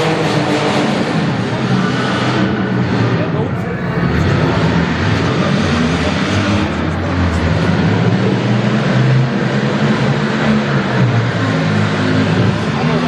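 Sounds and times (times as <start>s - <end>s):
car engines idling and revving: 0.0s - 13.0s.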